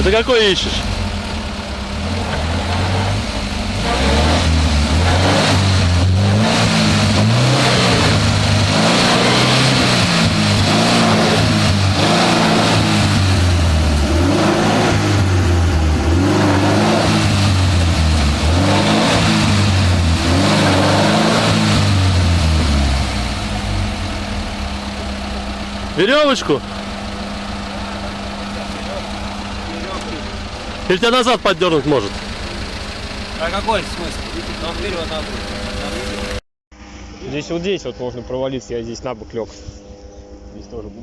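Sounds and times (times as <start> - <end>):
off-road vehicle engine revving: 0.0 - 36.4.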